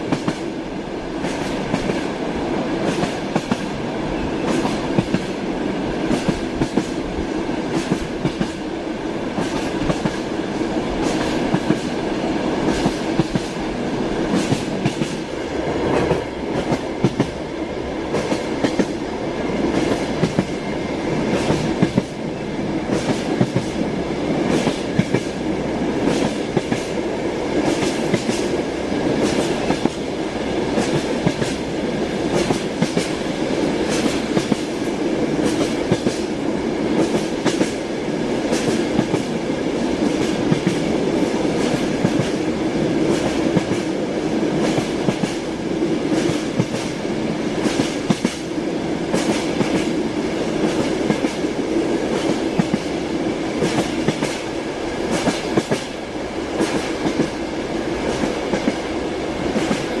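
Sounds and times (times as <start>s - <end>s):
train rumbling: 0.0s - 60.0s.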